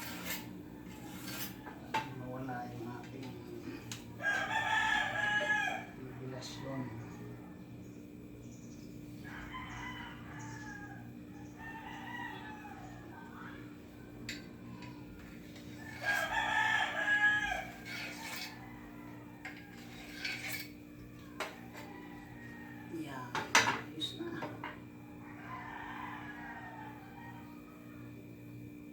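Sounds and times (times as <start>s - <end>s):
roosters crowing: 0.0s - 2.6s, 3.4s - 28.9s.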